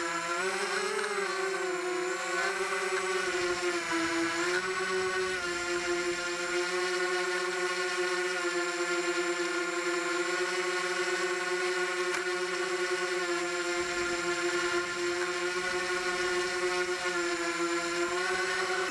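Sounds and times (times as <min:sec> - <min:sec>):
small engine buzzing: 0:00.0 - 0:18.9.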